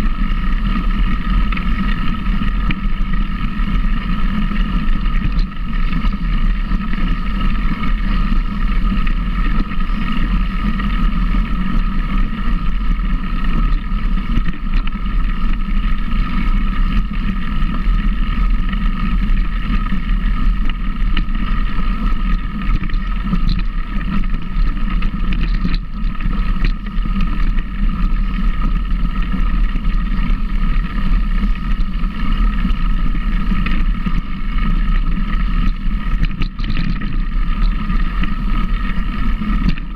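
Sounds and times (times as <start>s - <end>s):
motor running steadily: 0.0s - 39.9s
wind noise on microphone: 0.0s - 39.9s.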